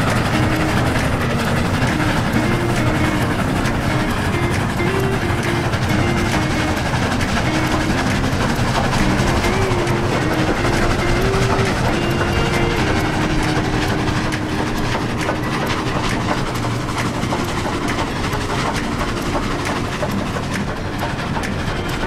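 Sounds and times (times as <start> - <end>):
steam train rumbling: 0.0 - 22.0
wheels clicking over rails: 0.0 - 22.0.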